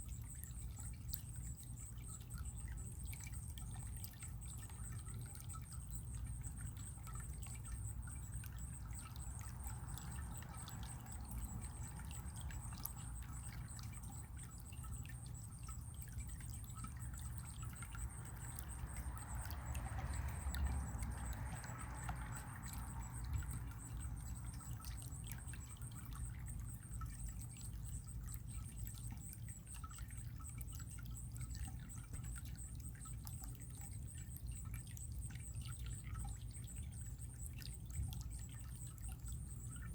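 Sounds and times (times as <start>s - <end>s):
small water splashes: 0.0s - 39.9s
water trickling and dripping: 0.0s - 39.9s.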